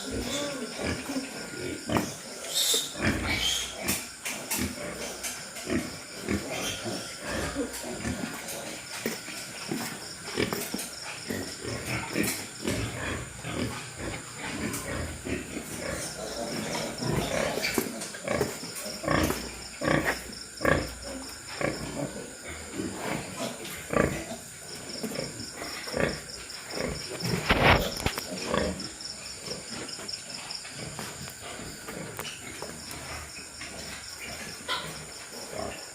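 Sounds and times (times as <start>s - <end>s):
insect trill: 0.0s - 35.9s
pigs grunting and squealing: 0.0s - 35.9s.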